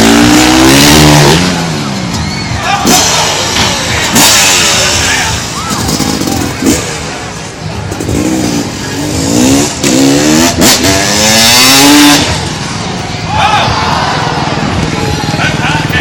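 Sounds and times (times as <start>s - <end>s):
motorbike engines revving hard: 0.0s - 16.0s.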